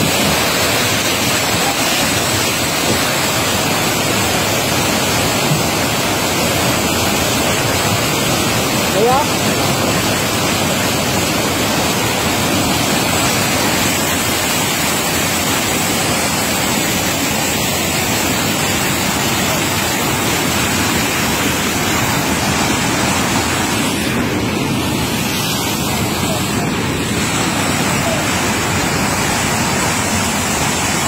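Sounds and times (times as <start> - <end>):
water rushing from outlet: 0.0 - 31.0.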